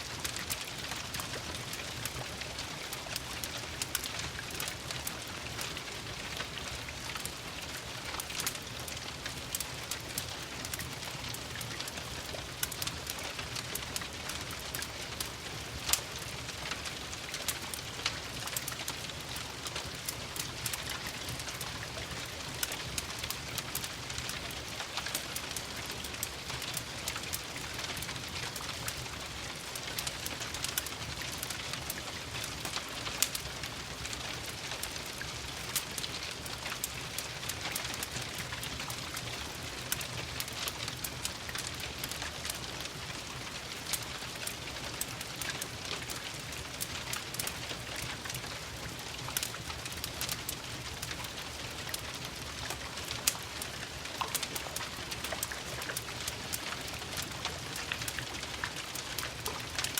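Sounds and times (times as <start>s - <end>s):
crackling wood fire: 0.0s - 59.9s
steady rain: 0.0s - 59.9s.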